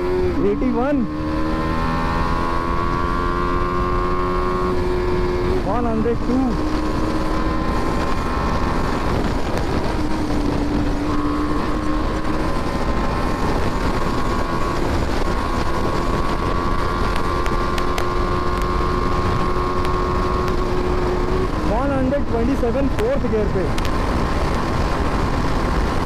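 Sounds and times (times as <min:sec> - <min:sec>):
motorcycle engine at high revs: 0:00.0 - 0:26.0
wind rush on microphone: 0:00.0 - 0:26.0.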